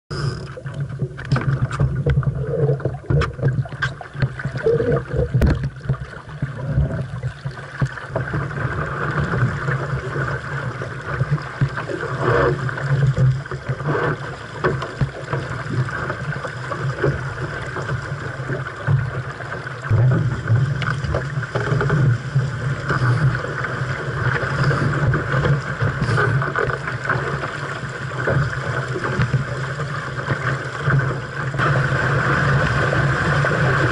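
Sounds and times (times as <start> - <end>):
water rushing along hull: 0.1 - 33.9.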